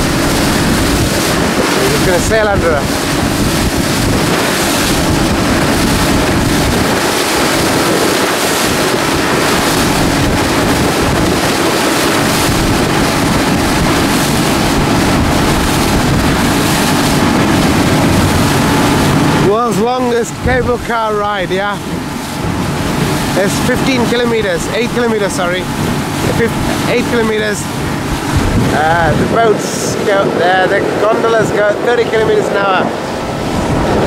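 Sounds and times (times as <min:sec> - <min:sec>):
boat engine hum: 0:00.0 - 0:34.0
water rushing past hull: 0:00.0 - 0:34.0
wind buffeting microphone: 0:00.0 - 0:34.0.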